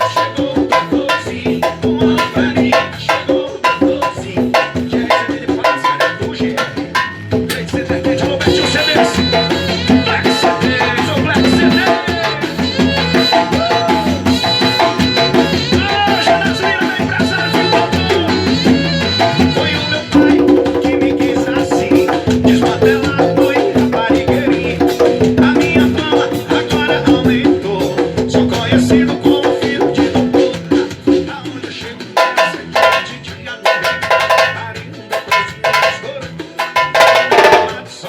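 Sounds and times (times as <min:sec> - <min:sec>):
latin music with drums: 0:00.0 - 0:38.0.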